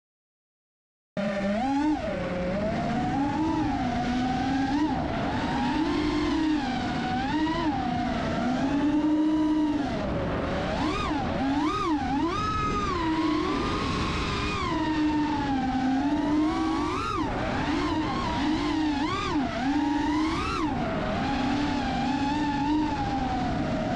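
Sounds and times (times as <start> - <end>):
quadcopter motors whining: 1.2 - 23.9.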